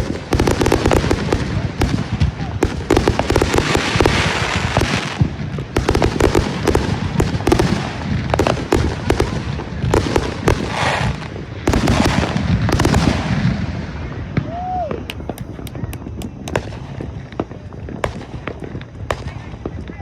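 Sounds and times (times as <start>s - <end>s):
fireworks crackling hiss: 0.0s - 20.0s
fireworks popping and banging: 0.0s - 20.0s.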